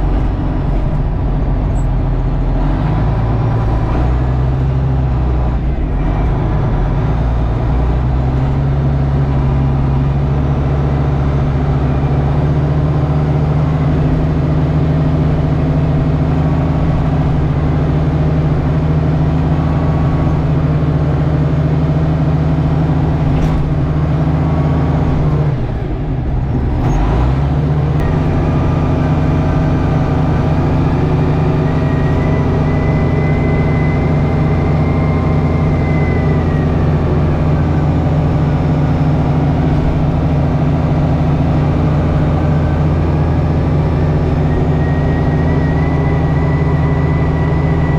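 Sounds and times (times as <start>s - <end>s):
tractor engine under load: 0.0s - 47.9s.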